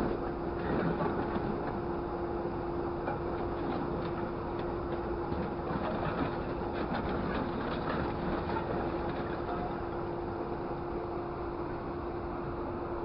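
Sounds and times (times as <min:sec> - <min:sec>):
vehicle mechanical hum: 0:00.0 - 0:13.0.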